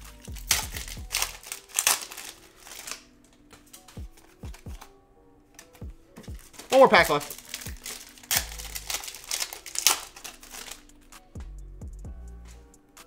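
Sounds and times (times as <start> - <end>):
foil wrapper crinkling: 0.0 - 4.9, 5.5 - 11.1
background music: 0.0 - 13.0.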